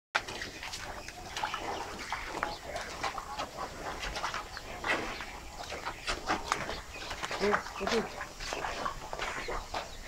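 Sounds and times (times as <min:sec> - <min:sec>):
birds chirping: 0:00.2 - 0:10.0.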